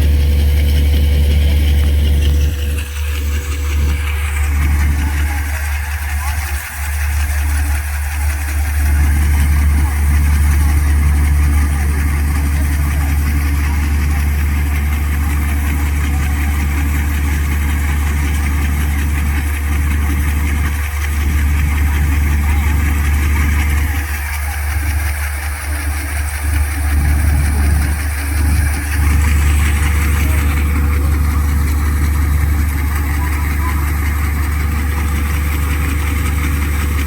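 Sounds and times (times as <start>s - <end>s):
farm machinery engine drone: 0.0s - 37.0s.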